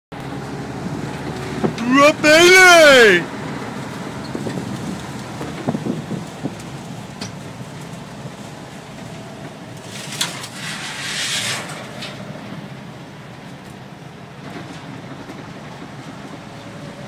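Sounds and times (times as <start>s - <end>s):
van engine and road rumble: 0.1s - 17.0s.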